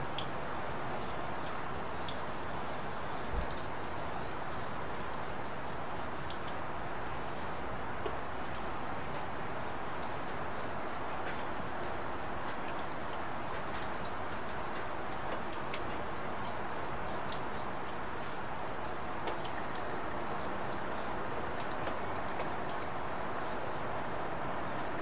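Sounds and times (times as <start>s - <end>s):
raindrops ticking on surfaces: 0.0s - 25.0s
steady rain: 0.0s - 25.0s.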